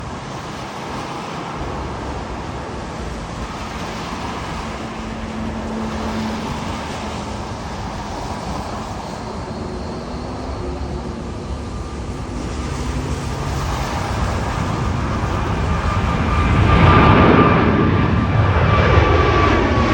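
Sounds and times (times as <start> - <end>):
jet engines roaring: 0.0 - 19.9.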